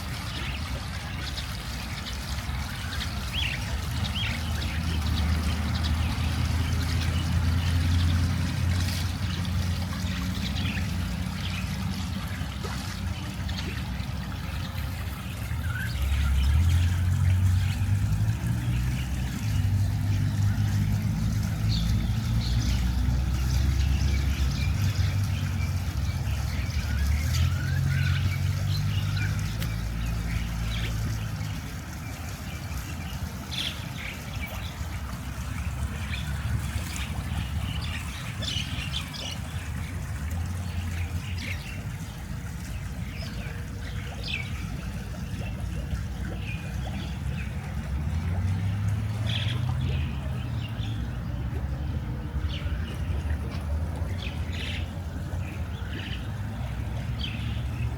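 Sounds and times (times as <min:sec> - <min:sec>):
birds chirping: 0:00.0 - 0:57.9.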